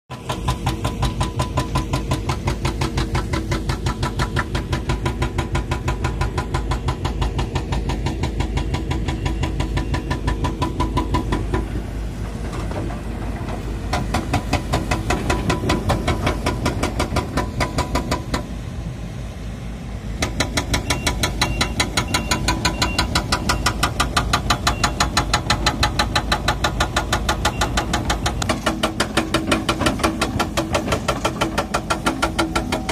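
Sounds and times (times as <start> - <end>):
hydraulic breaker hammering stone: 0.1 - 11.7, 13.9 - 18.5, 20.2 - 32.9
diesel engine running: 0.1 - 32.9.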